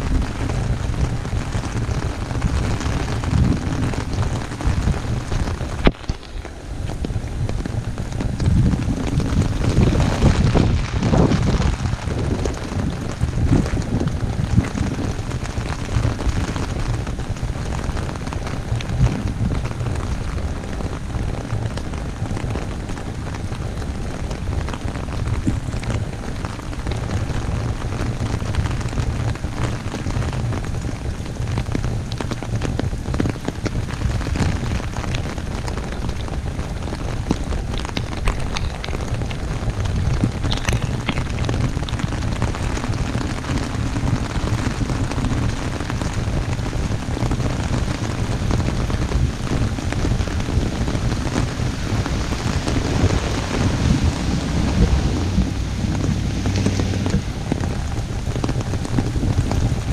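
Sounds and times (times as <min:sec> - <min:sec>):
heavy rain on an umbrella: 0:00.0 - 0:59.9
steady low rumble: 0:00.0 - 0:59.9.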